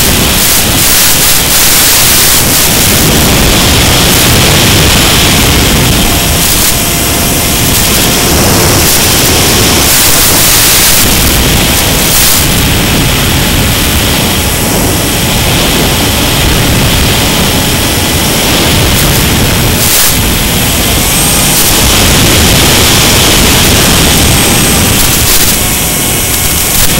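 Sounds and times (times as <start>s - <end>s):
loud static hiss: 0.0s - 26.9s.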